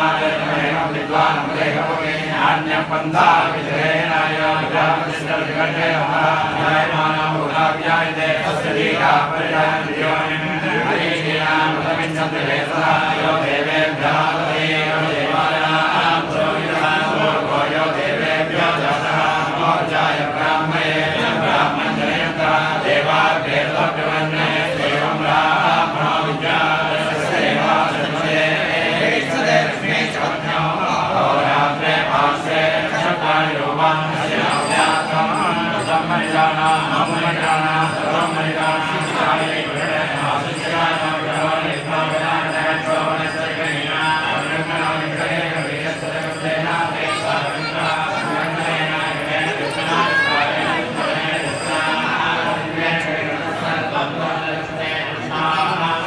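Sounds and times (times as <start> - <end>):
men chanting in unison: 0.0 - 56.0.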